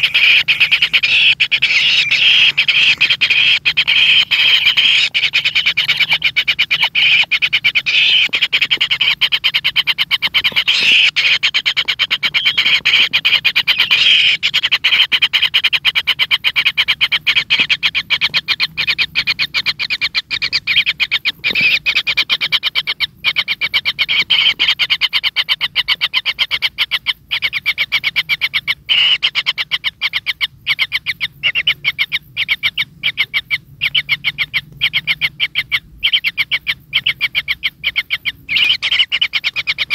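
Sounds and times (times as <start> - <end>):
chicks rasping begging calls: 0.0 - 39.9.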